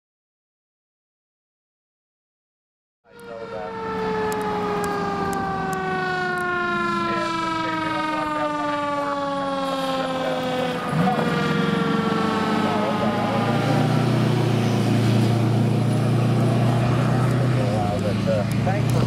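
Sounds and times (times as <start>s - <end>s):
fire engine siren wailing: 3.1s - 19.0s
truck engine hum: 3.1s - 19.0s.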